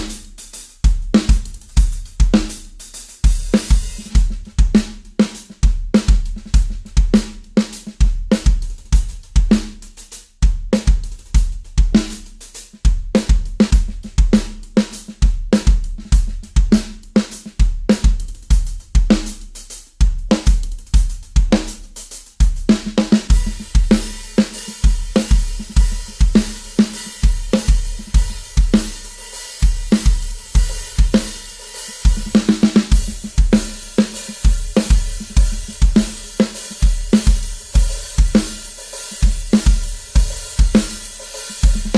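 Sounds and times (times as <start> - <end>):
drum kit playing: 0.0 - 41.9.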